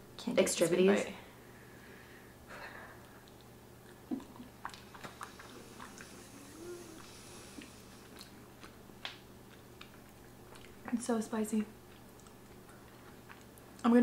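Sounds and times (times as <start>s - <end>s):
chewing soft food: 2.5s - 14.0s.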